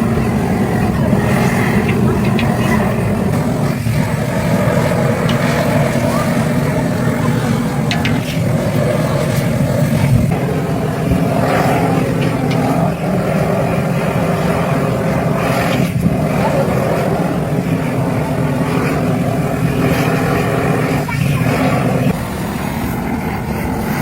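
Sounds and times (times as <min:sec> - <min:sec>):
engine running with low drone: 0:00.0 - 0:24.0.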